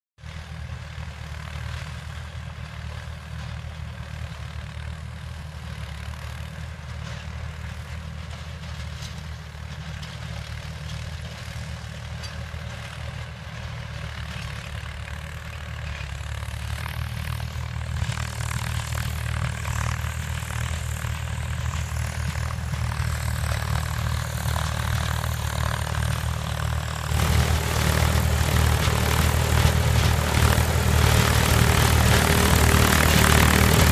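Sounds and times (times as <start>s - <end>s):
tractor diesel engine drone: 0.2s - 33.9s.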